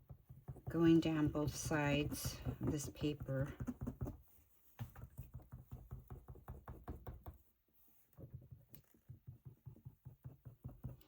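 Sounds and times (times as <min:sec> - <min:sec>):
faint tapping on paper: 0:00.0 - 0:07.5, 0:08.1 - 0:11.0.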